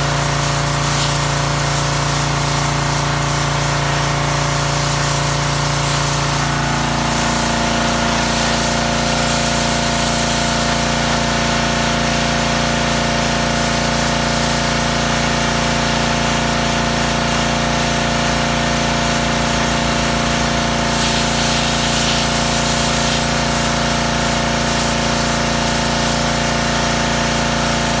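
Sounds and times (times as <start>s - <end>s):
pressure washer running: 0.0s - 28.0s
water jet spraying on brick: 0.0s - 28.0s.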